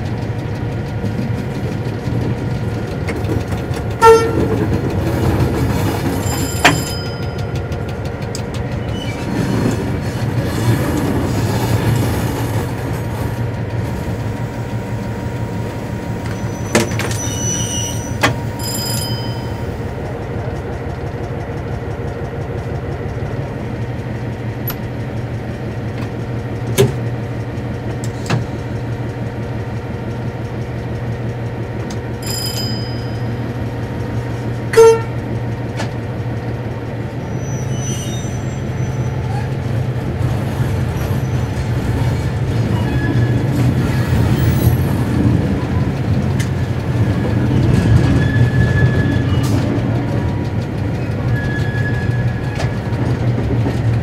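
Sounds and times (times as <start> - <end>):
locomotive diesel engine running: 0.0 - 54.0.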